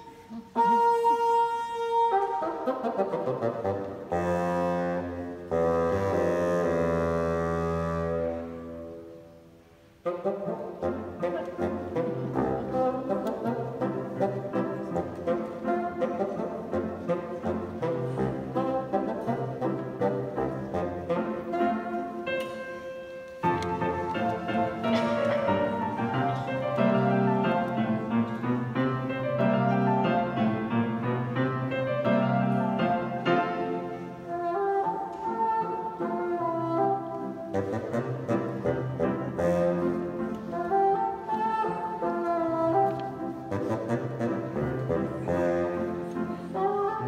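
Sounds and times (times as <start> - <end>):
bassoon solo: 0.0 - 47.0.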